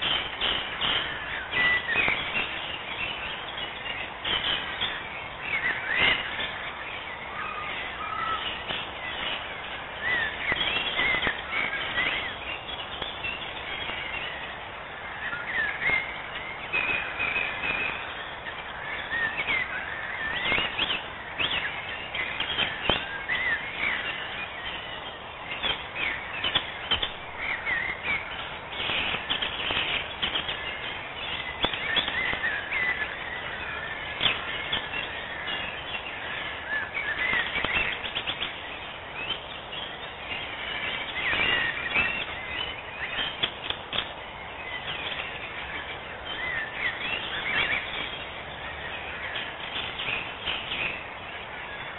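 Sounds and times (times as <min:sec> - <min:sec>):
birds chirping and singing: 0:00.0 - 0:51.9
steady background hiss: 0:00.0 - 0:51.9.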